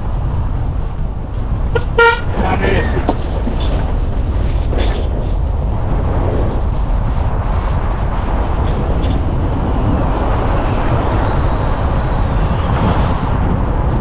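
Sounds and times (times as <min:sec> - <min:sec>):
vehicle road noise rumble: 0:00.0 - 0:14.0.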